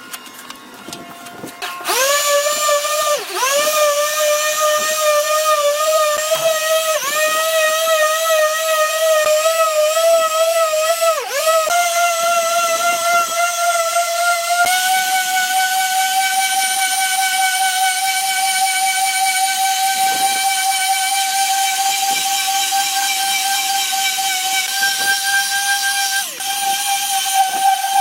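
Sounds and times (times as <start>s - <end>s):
power drill whining: 0.0s - 28.0s.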